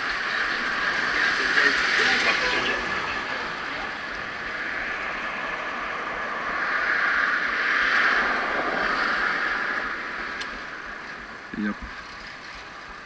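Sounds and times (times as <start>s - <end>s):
bicycle tyre noise on asphalt: 0.0s - 13.0s.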